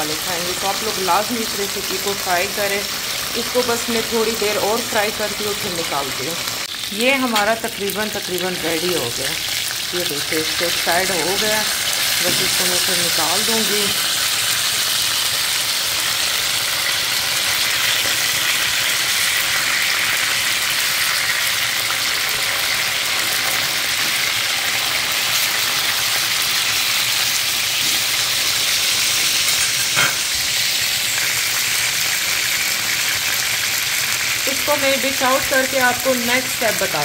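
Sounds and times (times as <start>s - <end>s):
chicken sizzling in oil: 0.0s - 37.0s.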